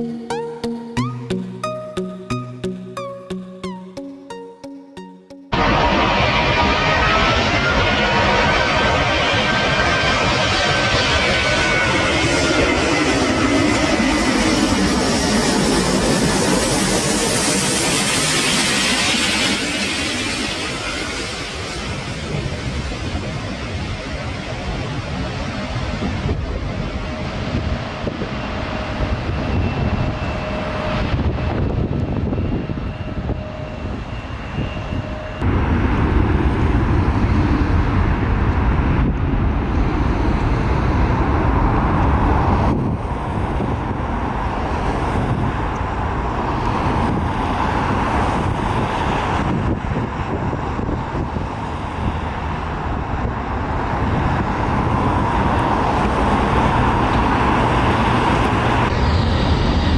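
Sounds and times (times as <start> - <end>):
jet engine rumble: 5.5 - 59.9.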